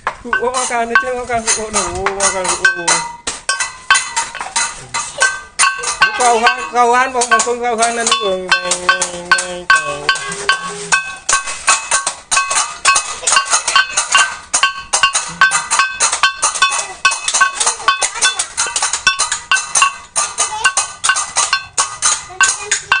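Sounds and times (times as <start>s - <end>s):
cymbals clashing: 0.0s - 23.0s
gamelan music: 0.0s - 23.0s.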